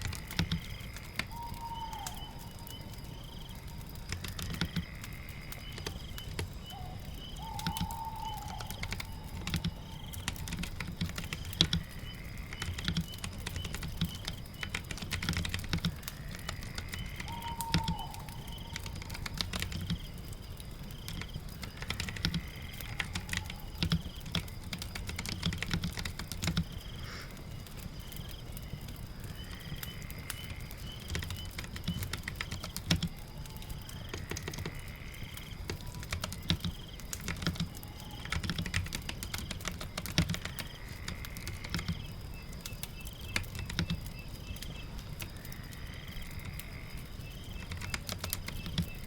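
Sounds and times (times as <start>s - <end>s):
faint high-pitched chirping tones: 0.0s - 49.0s
rain hiss: 0.0s - 49.0s.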